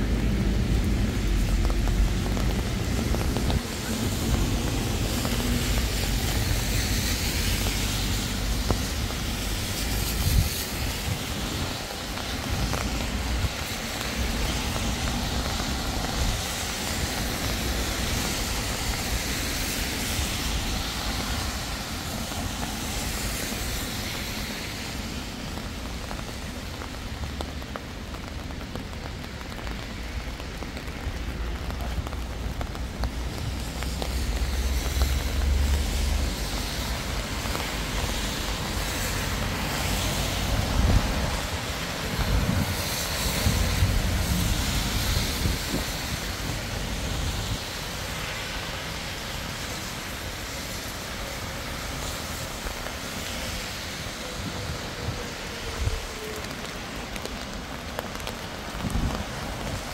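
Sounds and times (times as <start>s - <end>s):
low traffic rumble: 0.0s - 59.9s
steady rain: 0.0s - 59.9s
tyre hiss on wet road: 0.0s - 59.9s.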